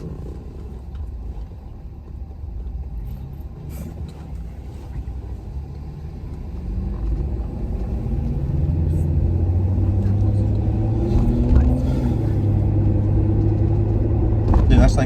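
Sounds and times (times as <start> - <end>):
truck road and engine rumble: 0.0 - 15.0.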